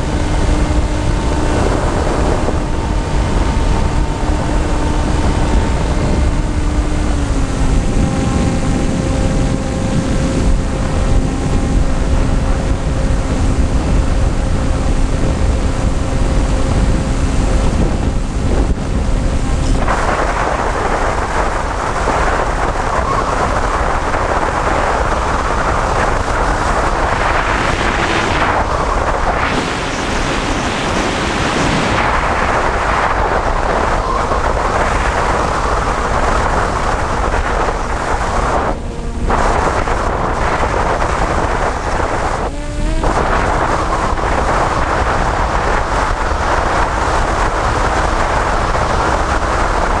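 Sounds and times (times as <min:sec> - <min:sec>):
faint motor hum: 0:00.0 - 0:50.0
wind rushing over microphone: 0:00.0 - 0:50.0.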